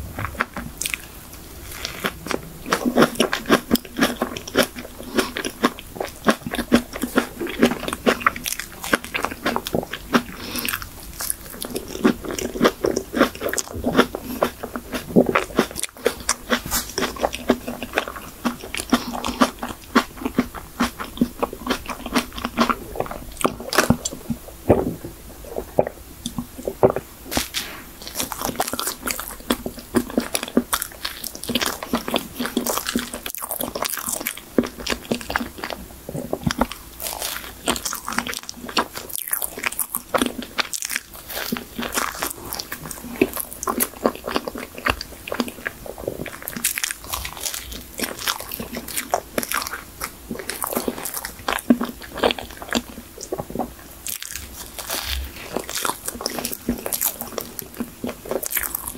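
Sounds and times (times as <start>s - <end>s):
soft chewing: 0.0s - 58.9s
biting into grapes: 1.7s - 58.9s.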